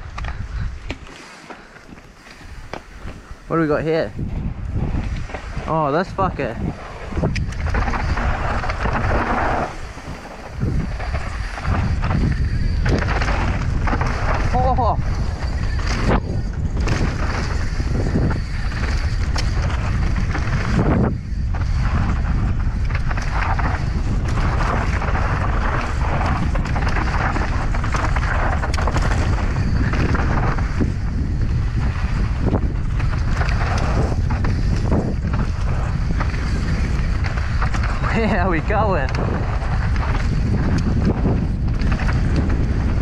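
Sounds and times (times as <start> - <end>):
wind buffeting microphone: 0.0 - 1.1, 1.9 - 43.0
bike tyres rolling on dirt: 0.0 - 43.0
bike knocks and rattles: 6.6 - 43.0.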